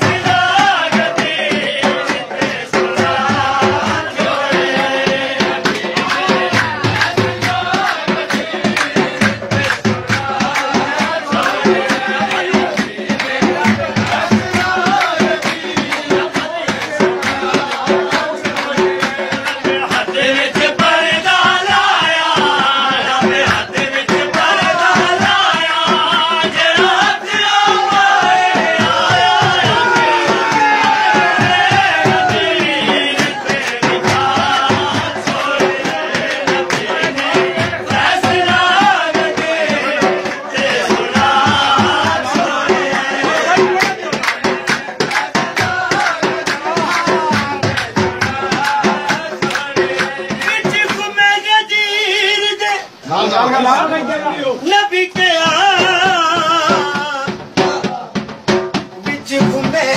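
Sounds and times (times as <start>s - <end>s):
dhol drum beating: 0.0s - 59.9s
men singing a chant: 0.0s - 59.9s.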